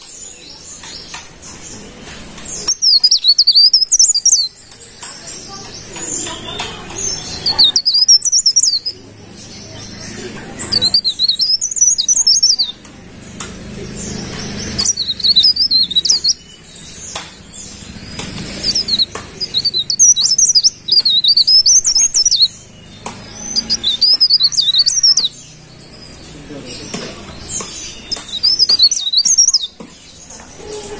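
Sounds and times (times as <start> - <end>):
leaf warbler twittering song: 0.0 - 30.9.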